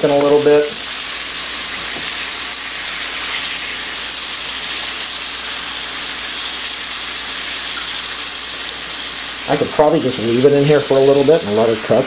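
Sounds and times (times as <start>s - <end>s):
meat sizzling on electric grill: 0.0s - 12.0s.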